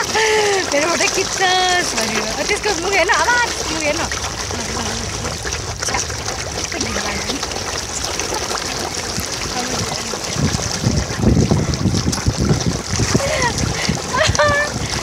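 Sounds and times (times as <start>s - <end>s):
carp thrashing and splashing water: 0.0s - 15.0s.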